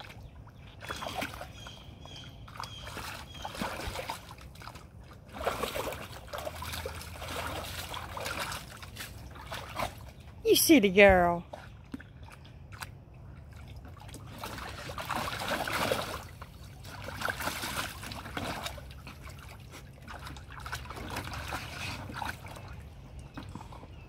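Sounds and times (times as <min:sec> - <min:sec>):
dog splashing in water: 0:00.0 - 0:10.3, 0:11.3 - 0:23.5.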